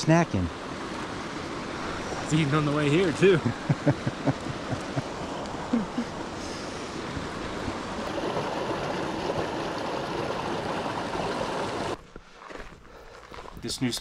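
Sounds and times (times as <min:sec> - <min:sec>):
creek rushing over boulders: 0:00.0 - 0:12.0.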